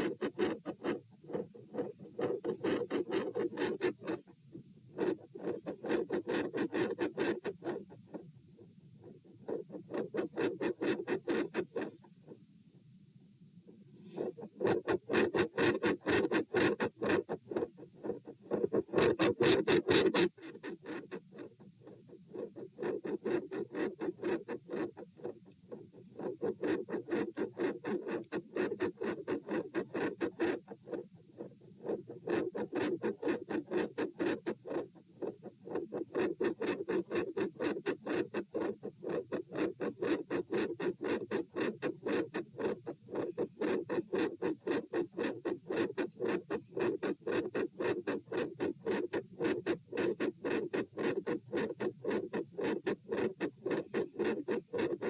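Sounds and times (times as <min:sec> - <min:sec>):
scratchy rubbing noise: 0:00.0 - 0:08.3, 0:09.0 - 0:12.4, 0:14.0 - 0:55.0.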